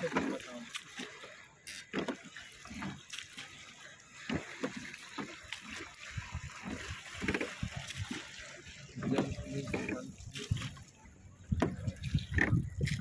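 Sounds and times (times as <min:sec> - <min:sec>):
water sloshing around oars: 0:00.0 - 0:13.0.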